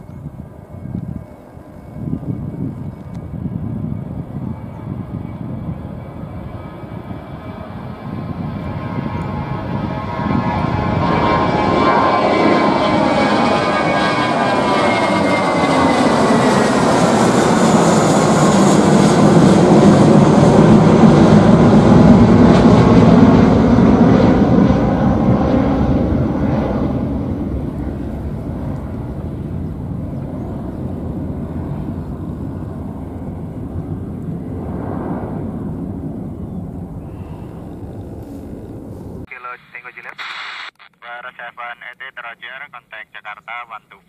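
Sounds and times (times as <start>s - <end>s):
jet airliner roaring: 0.0s - 39.3s.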